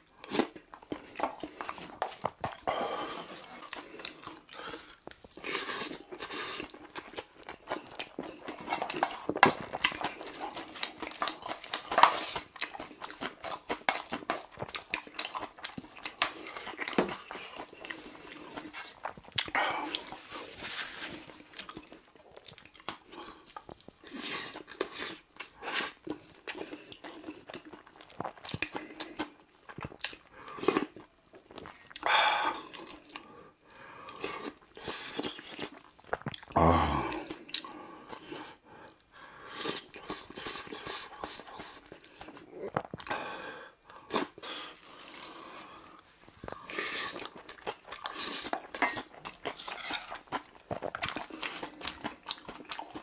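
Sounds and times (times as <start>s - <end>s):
chewing and crunching: 0.0s - 43.2s, 43.8s - 53.0s.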